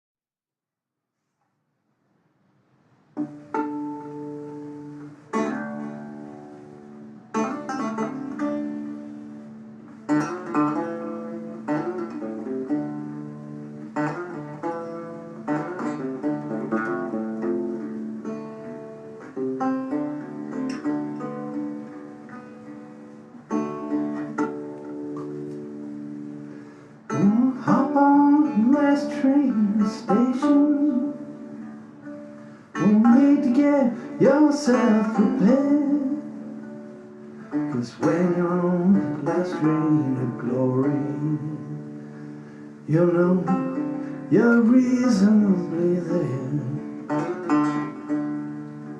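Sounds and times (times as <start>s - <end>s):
guitar chords ringing: 3.1s - 48.9s.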